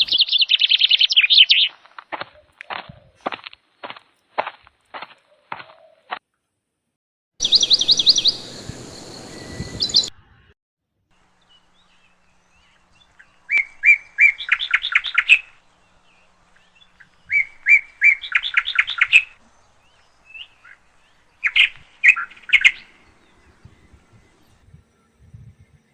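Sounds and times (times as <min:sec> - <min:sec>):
songbird singing: 0:00.0 - 0:06.2, 0:07.4 - 0:10.5, 0:11.1 - 0:25.9.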